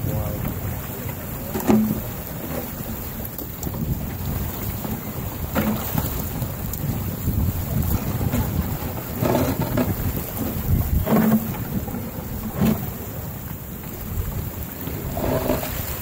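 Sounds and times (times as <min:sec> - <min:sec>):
river ice grinding and rumbling: 0:00.0 - 0:16.0
wind buffeting microphone: 0:00.0 - 0:16.0.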